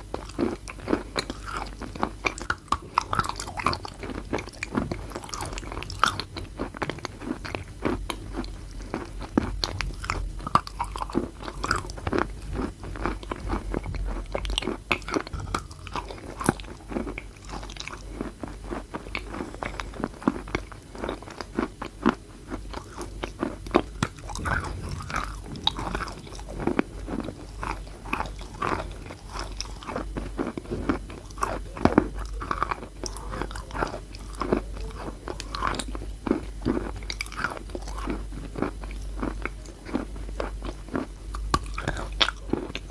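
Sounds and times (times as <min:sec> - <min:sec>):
person chewing chalk: 0:00.0 - 0:42.9.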